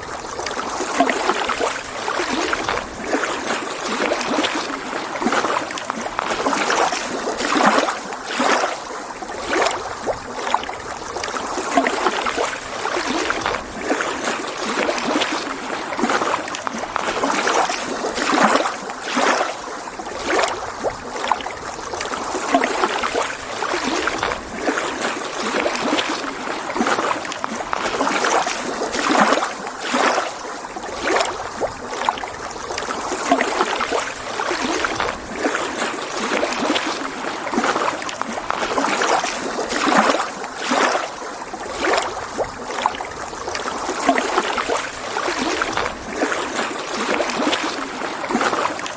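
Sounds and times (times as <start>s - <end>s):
waves lapping against shore: 0.0s - 48.9s.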